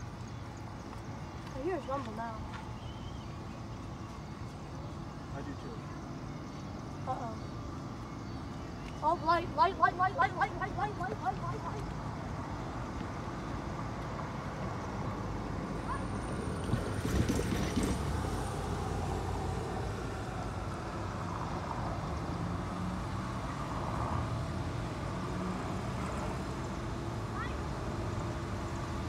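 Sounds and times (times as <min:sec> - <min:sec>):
distant freight train rumble: 0:00.0 - 0:29.0.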